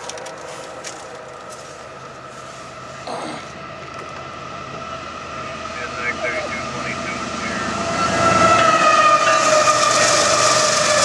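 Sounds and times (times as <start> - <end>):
distant train horn: 0.5 - 11.0.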